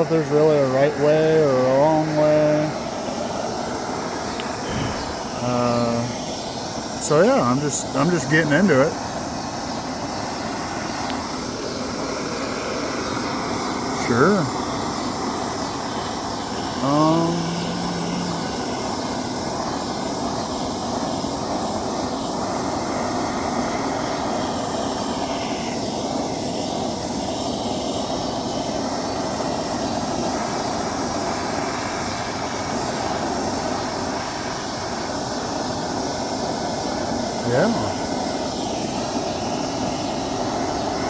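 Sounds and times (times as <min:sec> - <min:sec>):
blowtorch flame hissing: 0:00.0 - 0:41.0.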